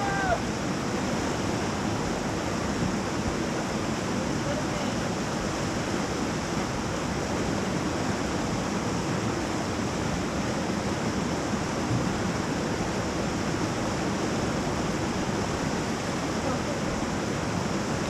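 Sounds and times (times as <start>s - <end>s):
whitewater rushing: 0.0s - 18.0s.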